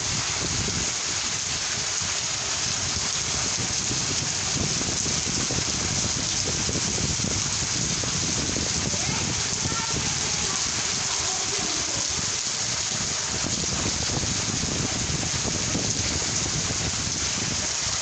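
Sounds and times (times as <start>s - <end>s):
raindrops pattering on surfaces: 0.0s - 18.0s
steady rain hiss: 0.0s - 18.0s.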